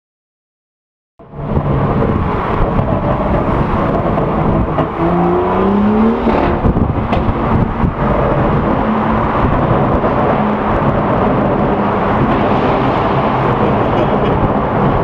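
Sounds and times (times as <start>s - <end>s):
car exhaust revving: 1.3s - 15.0s
exhaust crackles: 1.4s - 15.0s.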